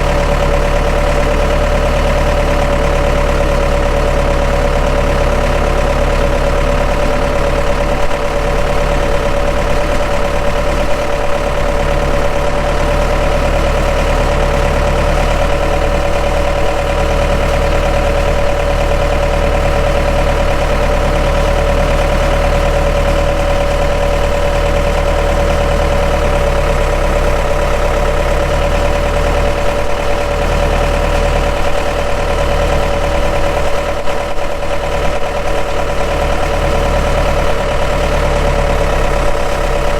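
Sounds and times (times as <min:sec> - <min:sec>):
skid steer engine idling: 0:00.0 - 0:39.9.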